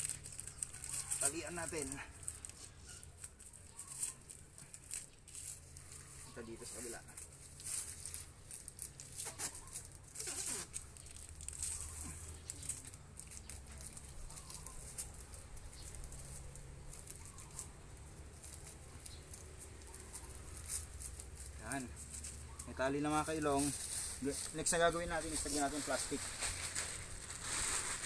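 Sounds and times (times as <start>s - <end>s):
plastic strip rustling: 0.0s - 28.0s.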